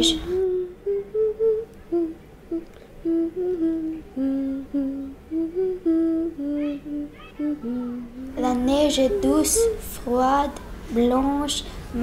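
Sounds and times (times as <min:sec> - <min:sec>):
person humming a slow tune: 0:00.0 - 0:09.9.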